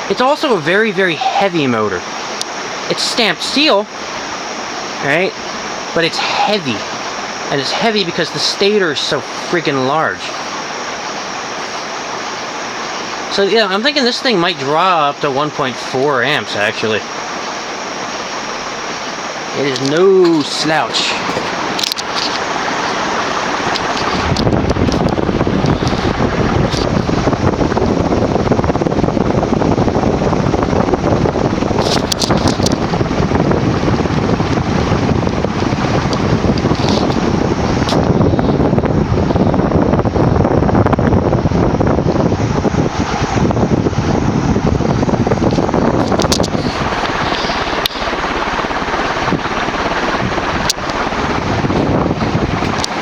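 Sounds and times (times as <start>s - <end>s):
ceiling fan rushing air: 0.0s - 53.0s.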